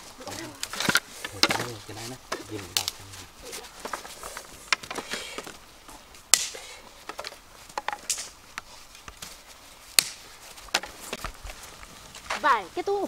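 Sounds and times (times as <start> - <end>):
wooden sticks knocking: 0.0 - 9.2, 9.9 - 11.4.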